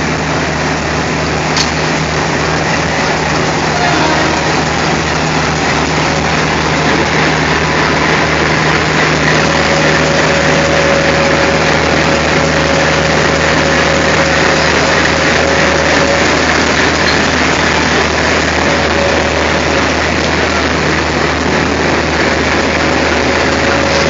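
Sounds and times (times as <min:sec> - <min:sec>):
diesel locomotive engine droning: 0:00.0 - 0:24.0
faint steady whine: 0:00.0 - 0:24.0.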